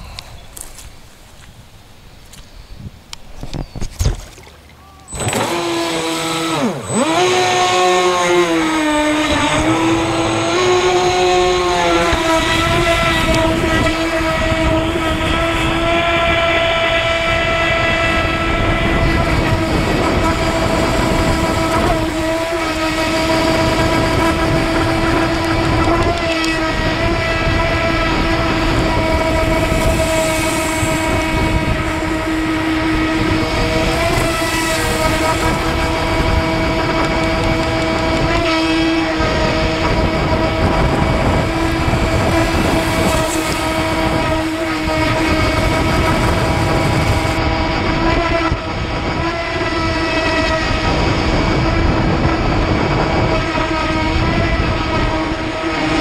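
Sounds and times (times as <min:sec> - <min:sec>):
electric motor high whine: 0:05.1 - 0:56.0.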